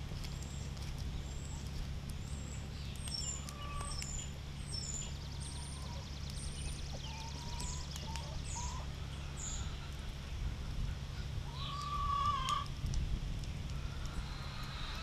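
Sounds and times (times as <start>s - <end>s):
steady low hum: 0.0s - 15.0s
birds chirping and whistling: 0.4s - 12.7s.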